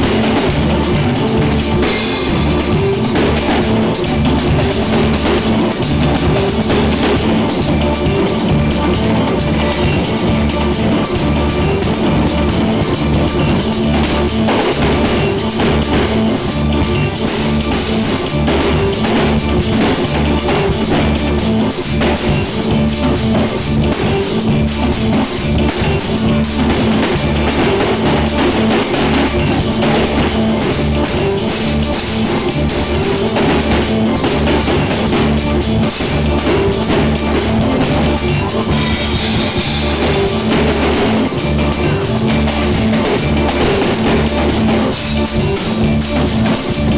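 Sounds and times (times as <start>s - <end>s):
backing music: 0.0s - 46.9s
drum kit groove: 0.0s - 46.9s.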